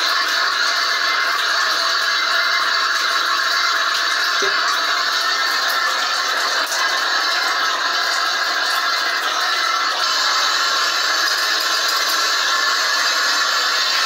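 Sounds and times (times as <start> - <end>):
air hissing from shower spout: 0.0 - 14.0.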